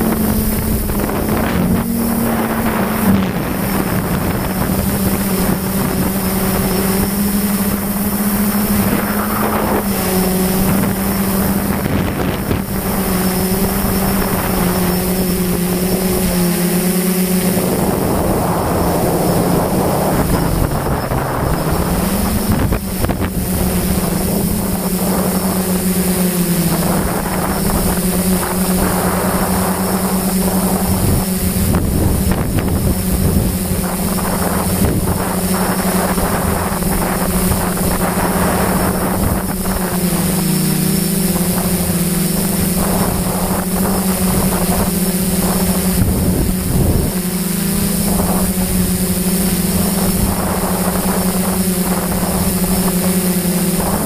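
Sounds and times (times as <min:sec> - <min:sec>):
drone propellers humming: 0:00.0 - 0:54.0
wind on microphone: 0:00.0 - 0:54.0.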